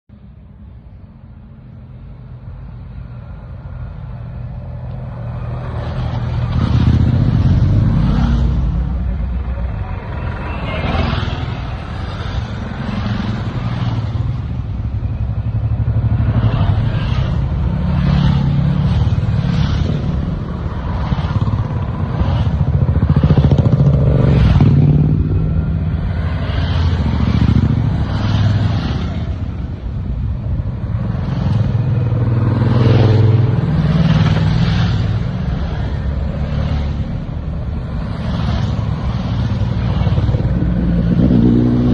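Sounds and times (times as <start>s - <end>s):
motorcycle engines revving: 2.2s - 41.9s.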